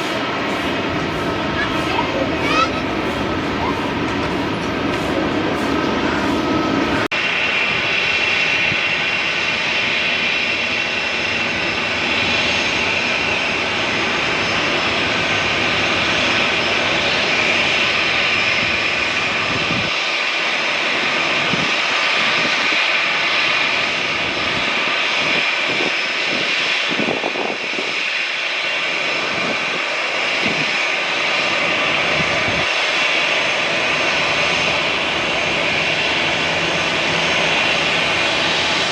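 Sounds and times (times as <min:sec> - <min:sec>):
jet engines roaring and whining: 0:00.0 - 0:38.9.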